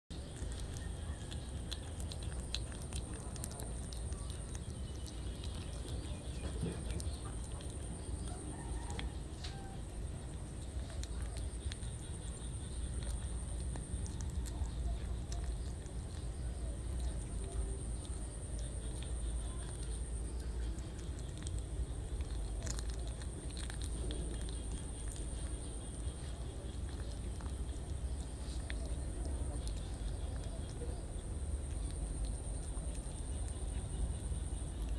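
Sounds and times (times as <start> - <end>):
kitten chewing fish: 0.1 - 34.9.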